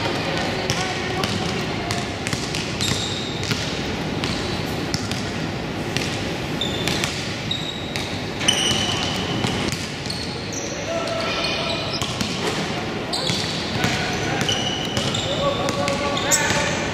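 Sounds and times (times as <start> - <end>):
sneaker squeaks: 0.0 - 5.3, 6.0 - 16.9
hubbub of players and spectators: 0.0 - 16.9.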